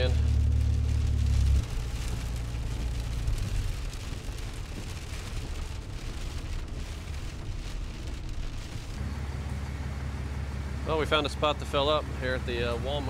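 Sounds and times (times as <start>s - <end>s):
engine and road rumble: 0.0s - 13.0s
rain hitting windshield: 0.0s - 13.0s.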